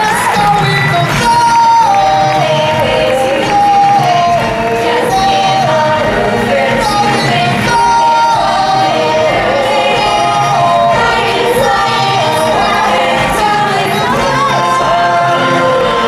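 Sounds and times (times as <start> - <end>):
chorus singing: 0.0 - 16.0
musical backing: 0.0 - 16.0.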